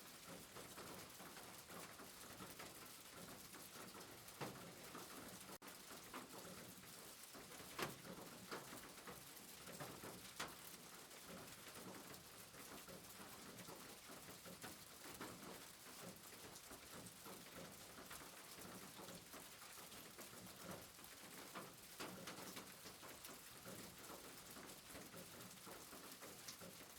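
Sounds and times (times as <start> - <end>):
soft rain patter: 0.0 - 26.9.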